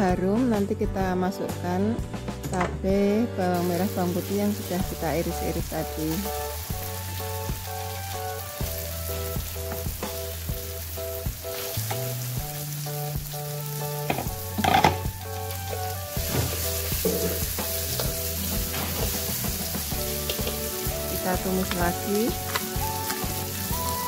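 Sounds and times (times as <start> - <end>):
background music: 0.0 - 24.0
food sizzling in hot oil: 3.5 - 24.0.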